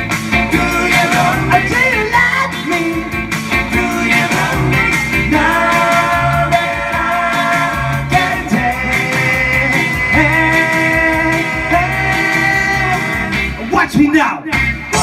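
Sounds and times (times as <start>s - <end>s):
electric guitar: 0.0s - 15.0s
repeating bass line: 0.0s - 15.0s
man singing into microphone: 0.5s - 13.4s.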